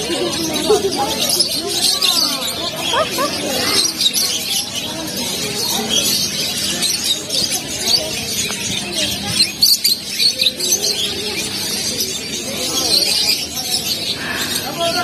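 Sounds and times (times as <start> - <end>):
murmur of voices: 0.0 - 15.0
small birds chirping: 0.0 - 15.0.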